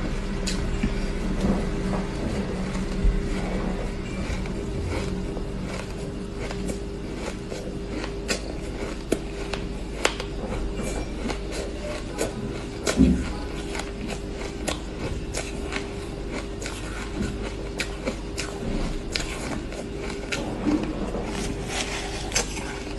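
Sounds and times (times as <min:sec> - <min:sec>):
ice crunching while chewed: 0:00.0 - 0:22.9
steady low hum: 0:00.0 - 0:22.9.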